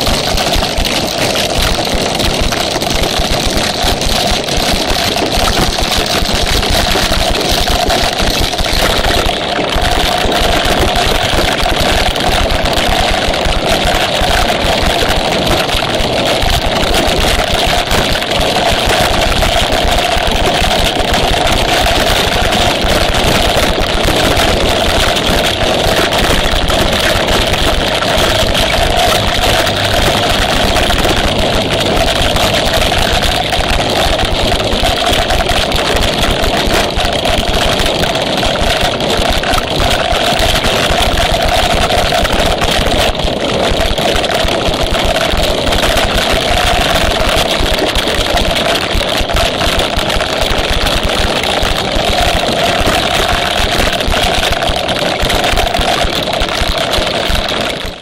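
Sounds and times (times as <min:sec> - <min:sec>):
torrential rain: 0:00.0 - 0:58.0.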